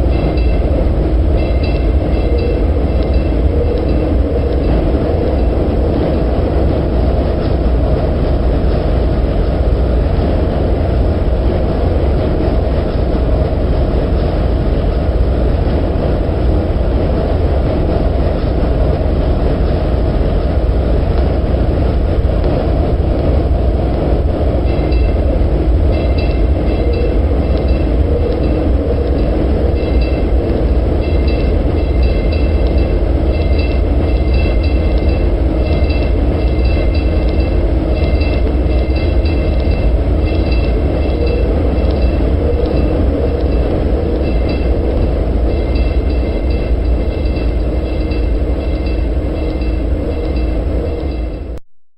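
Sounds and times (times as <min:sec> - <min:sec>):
streetcar rumbling in tunnel: 0:00.0 - 0:51.6.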